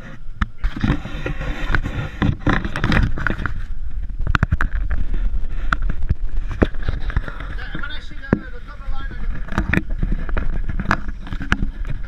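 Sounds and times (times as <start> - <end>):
outboard motors running: 0.0 - 12.0
wind buffeting microphone: 0.0 - 12.0.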